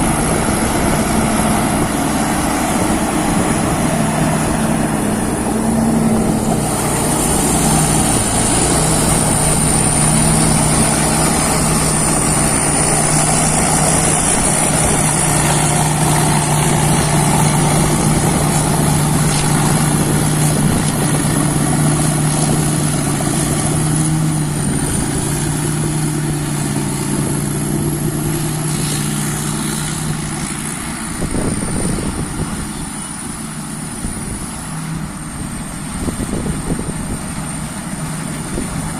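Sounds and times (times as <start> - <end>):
harvester engine drone: 0.0 - 38.9.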